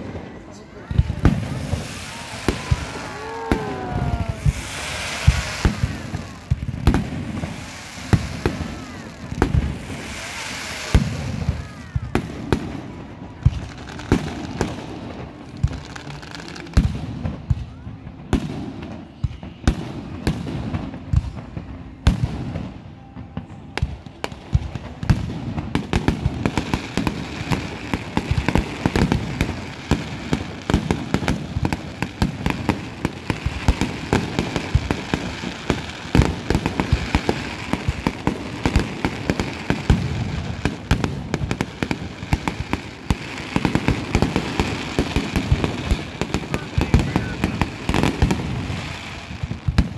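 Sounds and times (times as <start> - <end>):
fireworks bursting: 0.0 - 49.9
fireworks crackling: 0.0 - 49.9.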